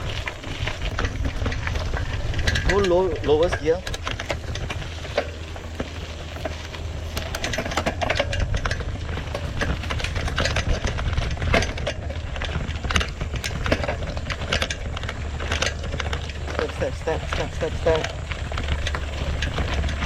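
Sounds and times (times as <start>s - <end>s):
bike clicking and rattling: 0.0s - 20.0s
steady low rumble: 0.0s - 20.0s.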